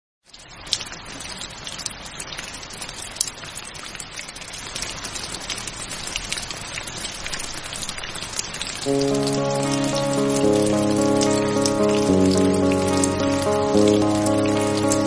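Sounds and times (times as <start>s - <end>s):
rain drops splashing: 0.2s - 15.0s.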